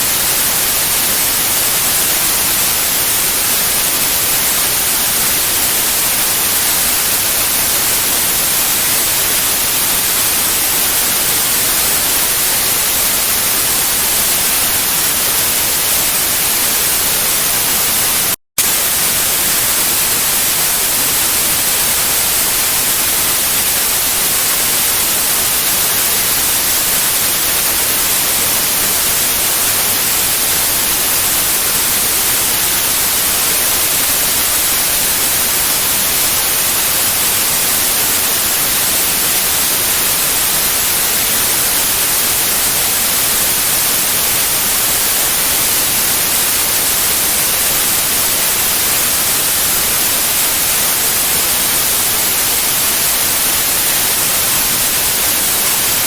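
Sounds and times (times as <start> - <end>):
loud white noise hiss: 0.0 - 56.0.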